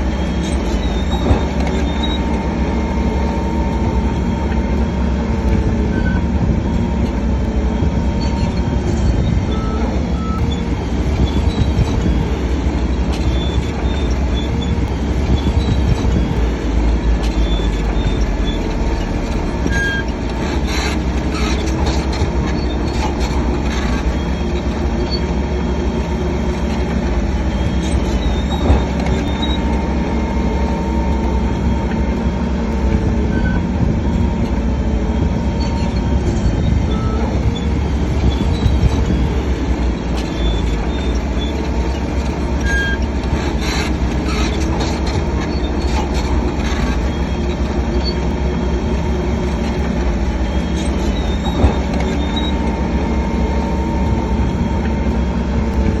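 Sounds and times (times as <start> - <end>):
bulldozer diesel engine under load: 0.0 - 56.0
steel tracks squealing: 0.0 - 56.0.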